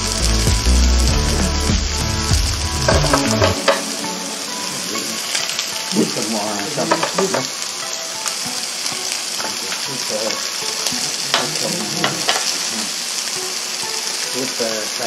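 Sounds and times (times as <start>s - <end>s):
meat and vegetables sizzling: 0.0s - 15.0s.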